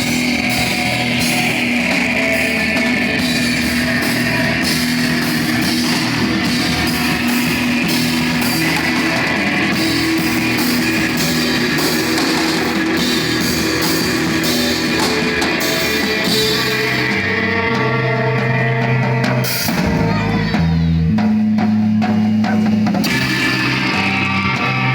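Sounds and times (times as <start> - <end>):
distorted electric guitar: 0.0 - 24.9
drums: 0.0 - 24.9.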